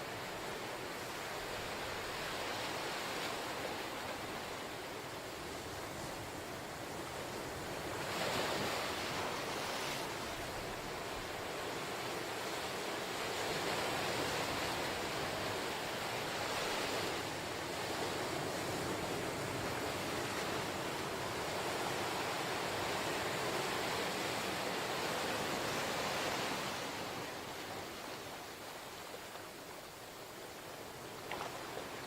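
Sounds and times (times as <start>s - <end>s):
ocean surf washing on shore: 0.0s - 32.0s.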